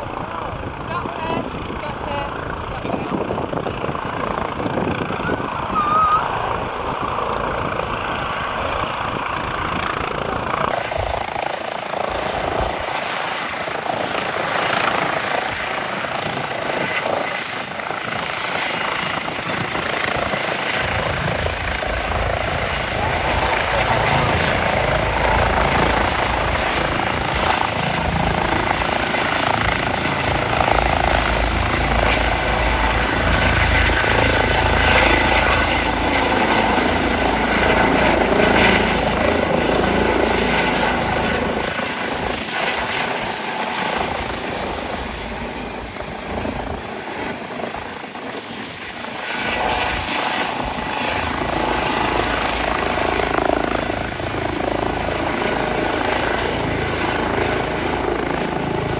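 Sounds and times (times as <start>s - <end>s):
helicopter rotor and turbine noise: 0.0s - 58.9s.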